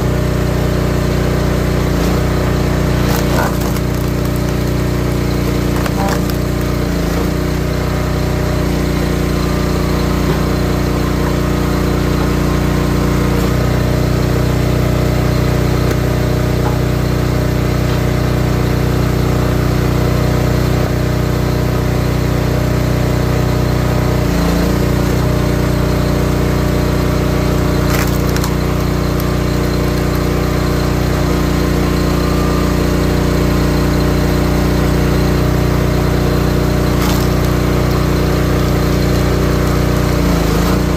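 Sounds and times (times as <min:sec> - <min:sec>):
log splitter engine running: 0:00.0 - 0:40.9.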